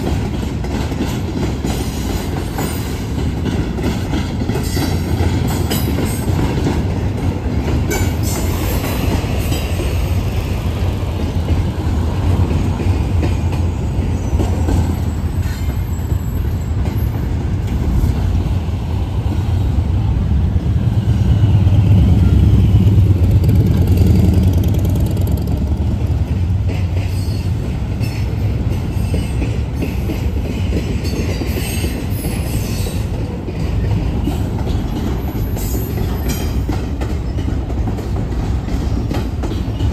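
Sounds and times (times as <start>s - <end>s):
street traffic: 0.0s - 39.9s
train wheels rumbling on rails: 0.0s - 39.9s.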